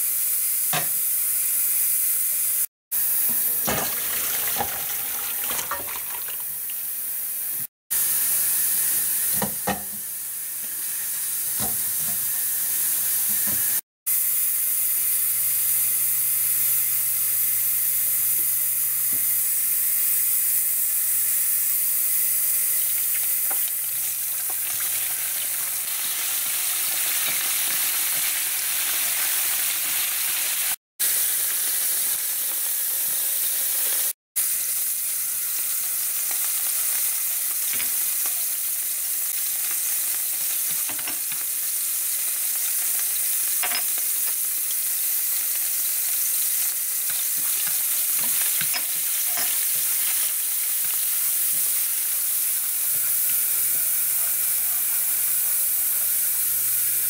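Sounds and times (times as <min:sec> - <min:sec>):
oil sizzling in a frying pan: 0:00.0 - 0:57.0.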